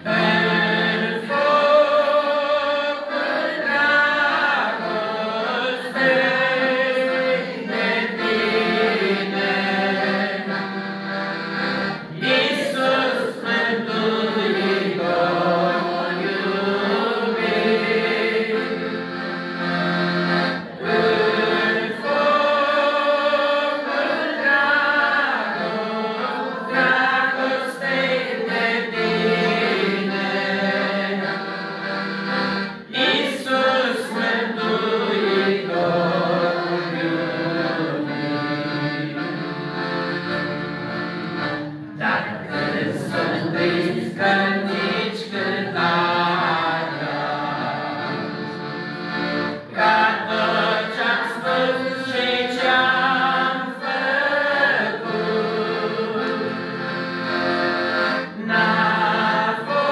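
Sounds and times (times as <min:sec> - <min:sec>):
woman and man singing a hymn: 0:00.0 - 0:10.9, 0:12.0 - 0:19.2, 0:20.8 - 0:31.6, 0:32.9 - 0:39.6, 0:42.0 - 0:48.4, 0:49.6 - 0:56.9, 0:58.3 - 0:59.9
accordion chords: 0:00.0 - 0:59.9.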